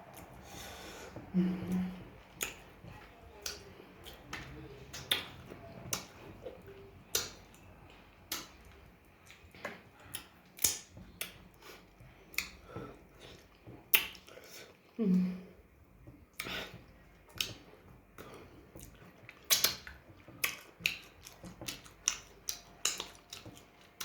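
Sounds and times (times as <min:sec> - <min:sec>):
wet mouth clicks while chewing: 0:01.7 - 0:02.7, 0:03.4 - 0:14.4, 0:16.3 - 0:24.0.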